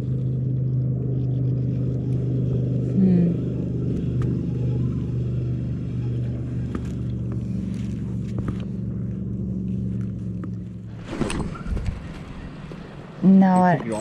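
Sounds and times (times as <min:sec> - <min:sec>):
motorboat engine humming: 0:00.0 - 0:14.0.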